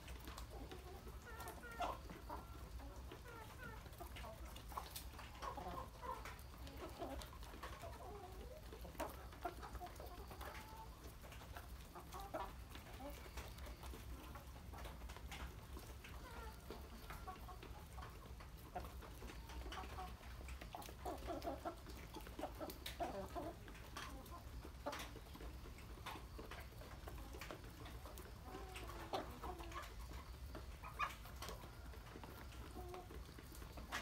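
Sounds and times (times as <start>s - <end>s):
chickens clucking softly: 0.0s - 34.0s.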